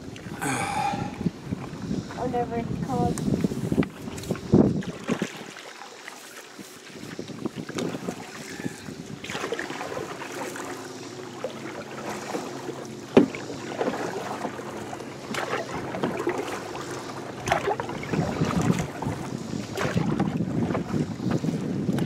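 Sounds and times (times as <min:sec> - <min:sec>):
paddle splashing in water: 0:02.9 - 0:22.0.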